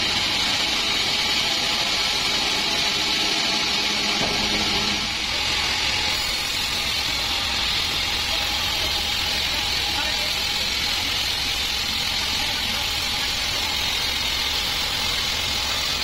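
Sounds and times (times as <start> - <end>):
band saw cutting wood: 0.0 - 16.0.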